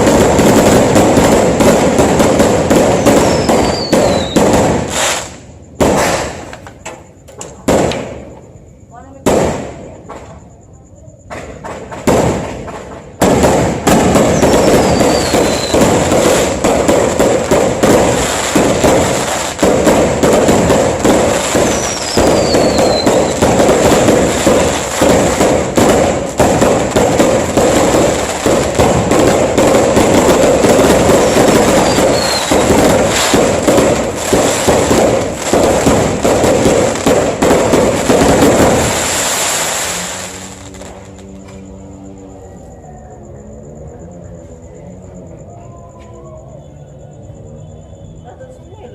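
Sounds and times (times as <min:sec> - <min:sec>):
whistling rockets: 0:00.0 - 0:10.5, 0:11.2 - 0:43.4
fireworks bangs and crackles: 0:00.0 - 0:42.1.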